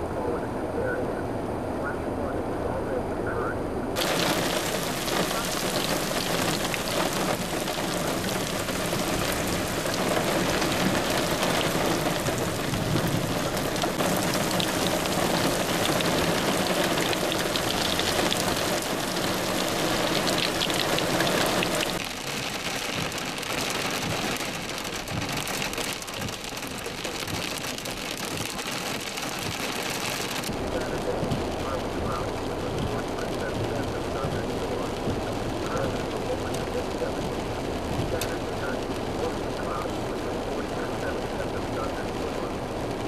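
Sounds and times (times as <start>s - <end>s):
heavy rain pouring: 4.0s - 43.0s
rain pattering on windshield: 4.0s - 43.0s.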